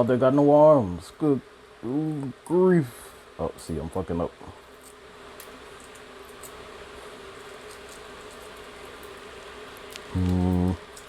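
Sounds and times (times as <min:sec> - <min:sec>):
low electrical hum: 0:00.0 - 0:11.0
water boiling hiss: 0:00.0 - 0:11.0.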